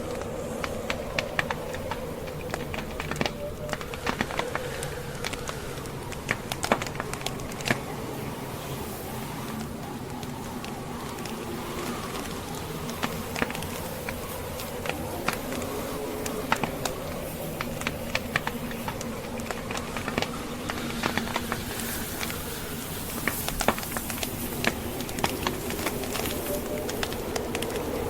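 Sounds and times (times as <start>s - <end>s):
blizzard wind: 0.0s - 28.0s
wood fire crackling and popping: 0.0s - 28.0s.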